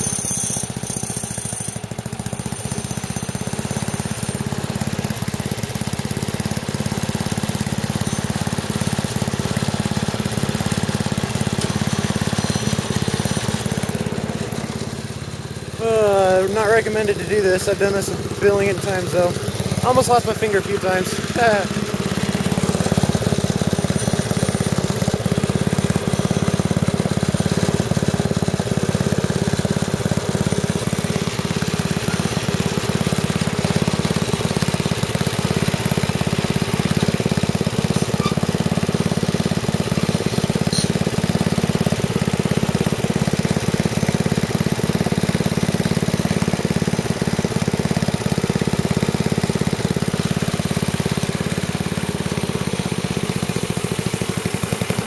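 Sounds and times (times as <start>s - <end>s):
wood chipper engine running: 0.0s - 55.0s.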